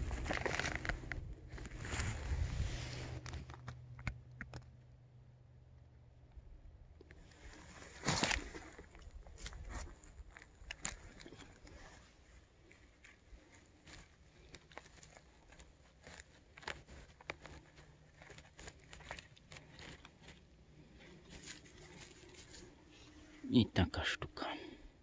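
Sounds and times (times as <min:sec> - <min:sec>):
rustling of dry leaves and twigs: 0:00.0 - 0:04.0, 0:07.2 - 0:23.6.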